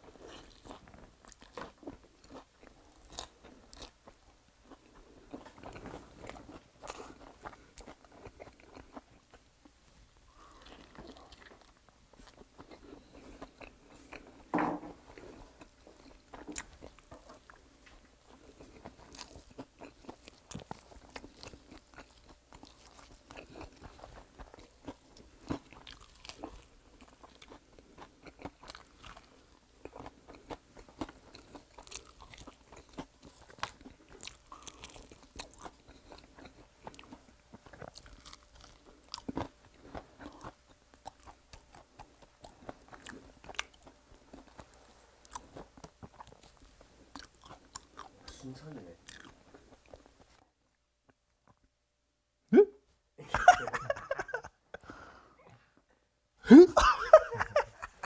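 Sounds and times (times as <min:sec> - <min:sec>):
chewing and crunching fried chicken: 0:00.0 - 0:51.7.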